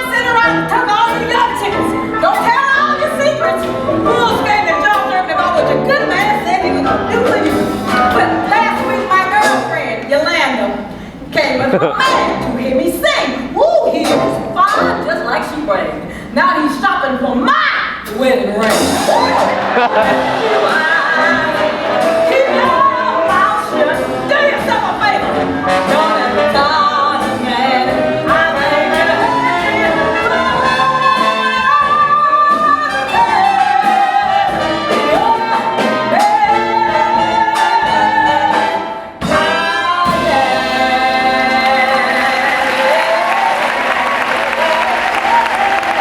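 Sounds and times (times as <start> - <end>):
live jazz band with brass: 0.0 - 16.1, 17.5 - 46.0
singer belting blues: 0.0 - 46.0.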